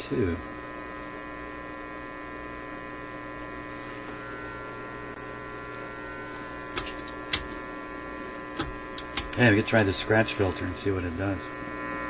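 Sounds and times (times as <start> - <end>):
amplifier hum: 0.0 - 12.0.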